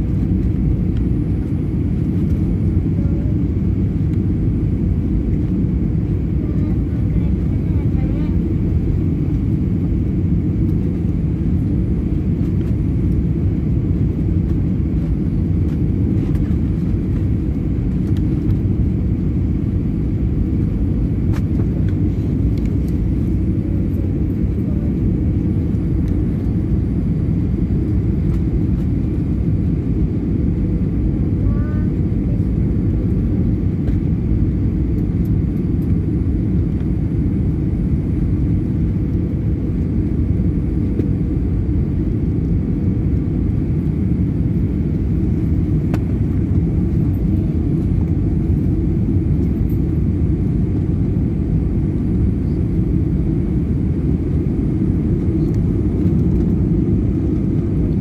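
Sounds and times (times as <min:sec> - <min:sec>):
faint steady whine: 0:00.0 - 0:58.0
jet engine and airflow rumble: 0:00.0 - 0:58.0.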